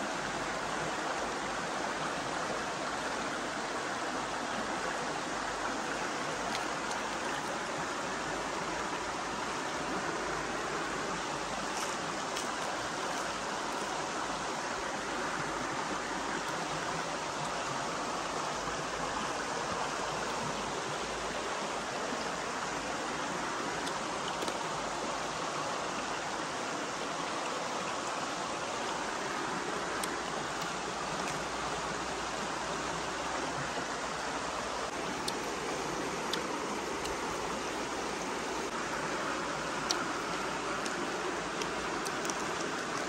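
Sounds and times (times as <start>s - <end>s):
stream flowing over rocks: 0.0s - 43.0s.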